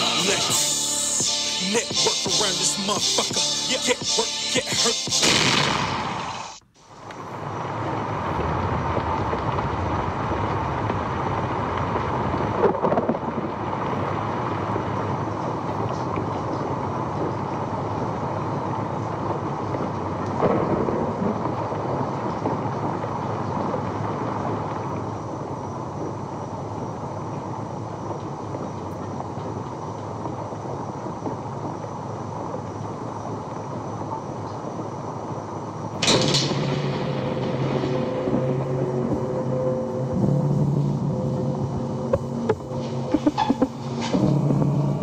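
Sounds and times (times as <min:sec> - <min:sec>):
steady rumbling: 0:00.0 - 0:45.0.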